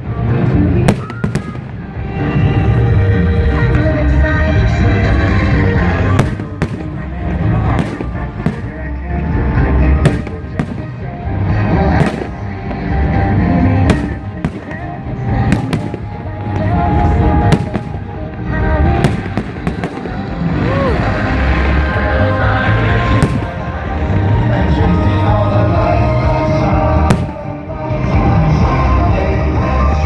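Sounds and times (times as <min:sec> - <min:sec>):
music playing: 0:00.0 - 0:30.0
fireworks bangs: 0:00.1 - 0:25.9, 0:27.0 - 0:28.0.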